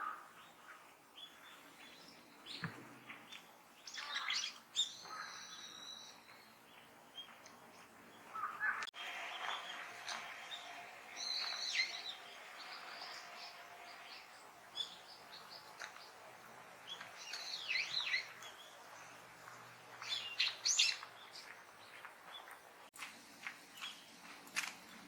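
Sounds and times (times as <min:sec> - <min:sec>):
small birds chirping: 0:00.0 - 0:22.9, 0:23.6 - 0:25.0.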